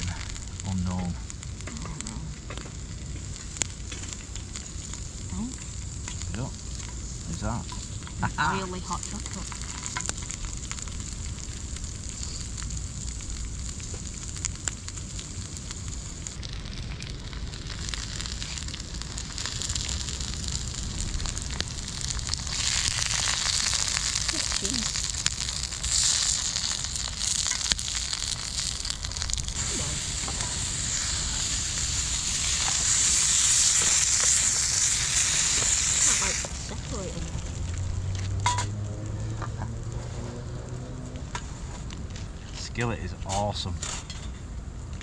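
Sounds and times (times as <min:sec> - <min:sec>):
food sizzling in a skillet: 0:00.0 - 0:41.8
burning wood crackling: 0:00.0 - 0:45.0.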